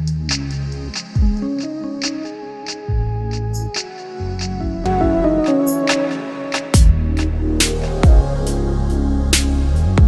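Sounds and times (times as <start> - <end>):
music with deep bass notes: 0.0 - 1.9, 2.9 - 10.0.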